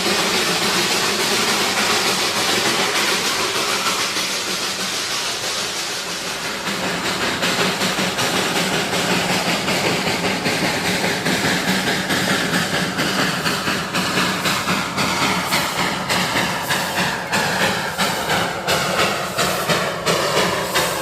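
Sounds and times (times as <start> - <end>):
train clattering: 0.0 - 21.0.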